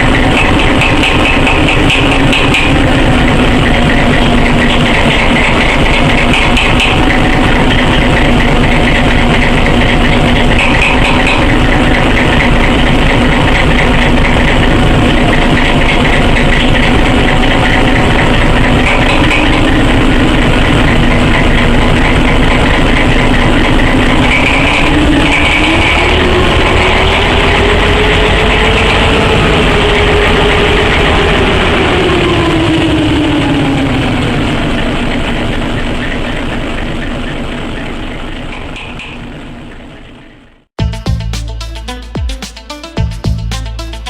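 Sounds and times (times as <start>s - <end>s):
diesel engine idling and revving: 0.0s - 42.0s.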